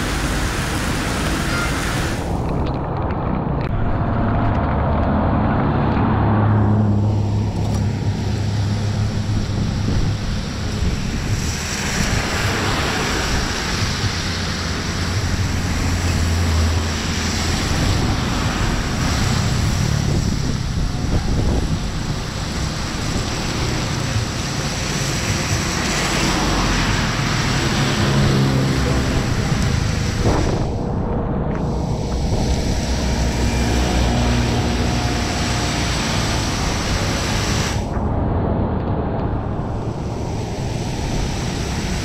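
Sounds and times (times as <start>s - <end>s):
traffic on a wet road: 0.0s - 42.0s
truck engine: 0.0s - 42.0s
wind buffeting microphone: 0.0s - 42.0s.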